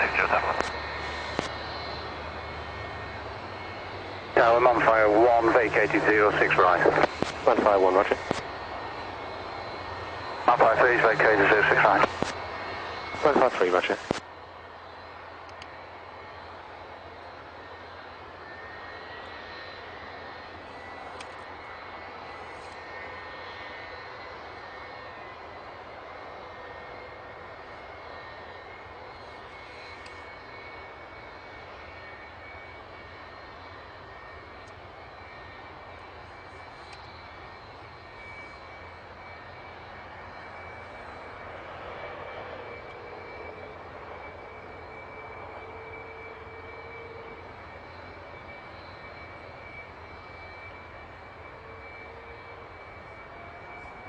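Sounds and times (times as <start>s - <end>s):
jet engine running: 0.0s - 54.0s.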